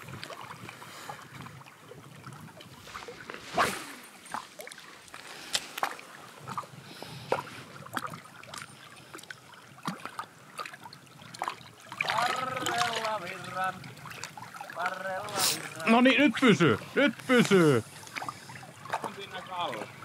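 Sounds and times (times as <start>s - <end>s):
lake waves lapping: 0.0s - 20.0s
wind: 0.0s - 20.0s
sharp water splashes: 2.2s - 20.0s.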